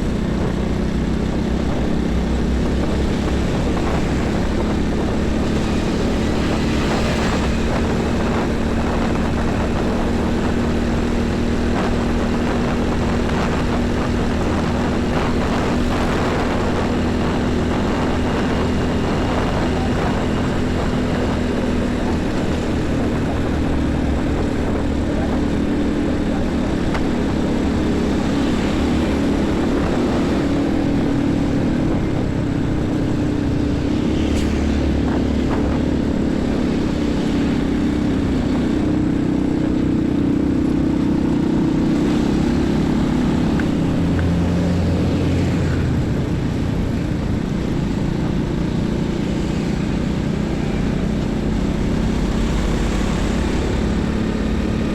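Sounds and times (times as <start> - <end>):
heavy traffic of trucks and buses: 0.0 - 54.9.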